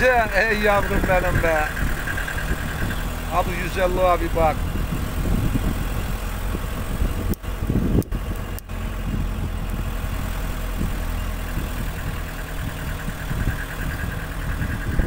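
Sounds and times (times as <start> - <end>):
vehicle engine with road noise: 0.0 - 15.0.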